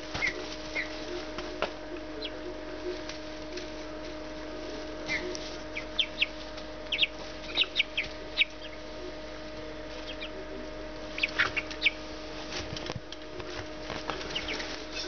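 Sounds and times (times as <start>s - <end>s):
chicks peeping: 0.0s - 15.0s
low hum: 0.0s - 15.0s.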